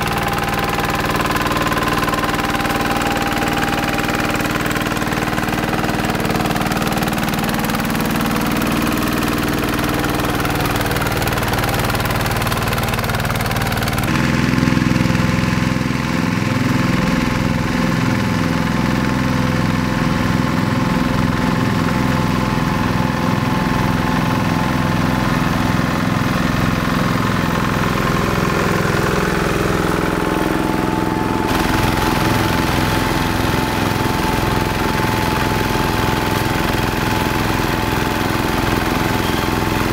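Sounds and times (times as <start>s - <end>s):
hand tractor diesel engine: 0.0s - 39.9s.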